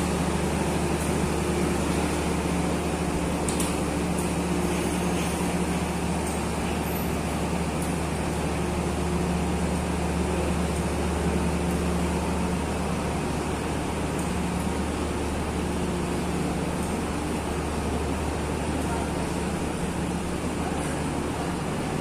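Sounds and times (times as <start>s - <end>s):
diesel train engine idling: 0.0s - 22.0s.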